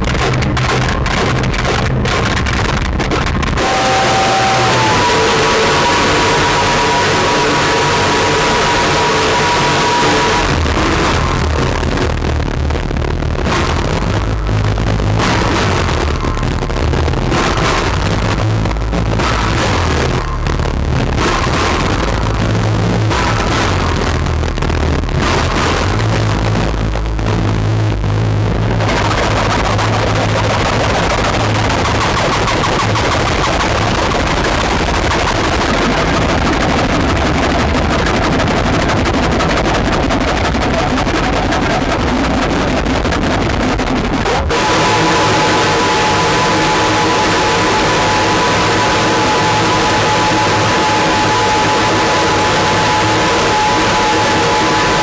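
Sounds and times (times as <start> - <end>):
harsh scraped noise instrument: 0.0 - 55.0
pulsing grinding noise machine: 0.0 - 55.0
steady low drone: 0.0 - 55.0.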